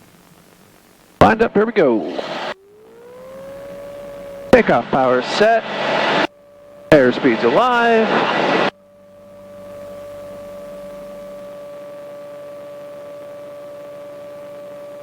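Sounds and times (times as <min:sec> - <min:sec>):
light aircraft engine hum: 0:00.0 - 0:15.0.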